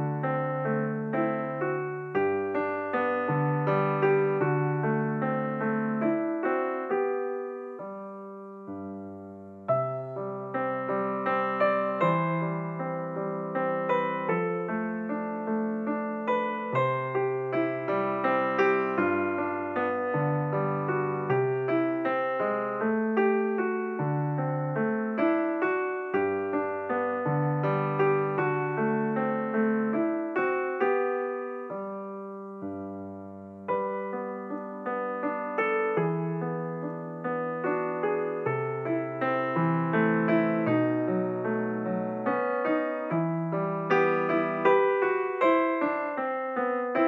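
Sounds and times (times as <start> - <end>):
gentle piano music: 0.0 - 47.0.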